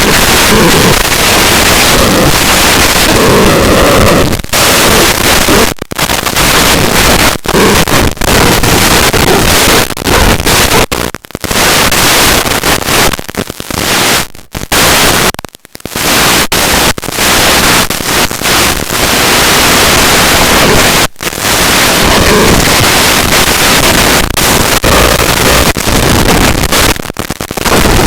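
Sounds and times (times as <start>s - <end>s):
loud static hiss: 0.0s - 28.0s.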